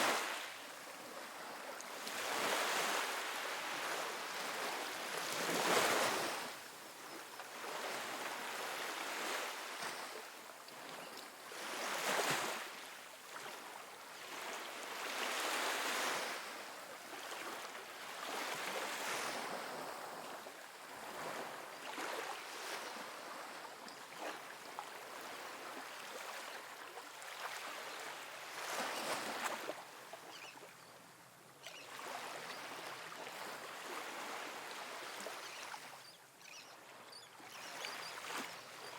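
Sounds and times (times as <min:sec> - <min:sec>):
ocean waves on sandy beach: 0:00.0 - 0:30.5, 0:31.8 - 0:36.1.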